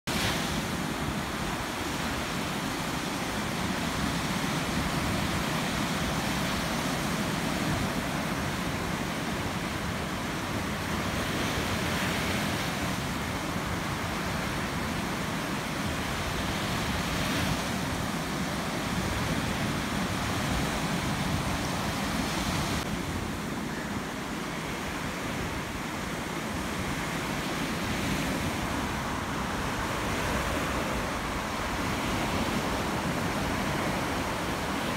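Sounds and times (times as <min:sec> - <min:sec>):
small waves breaking on beach: 0:00.1 - 0:34.9.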